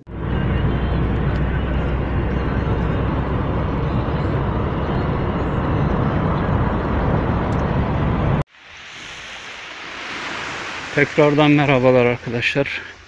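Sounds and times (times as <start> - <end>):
car road noise at highway speed: 0.0 - 11.0.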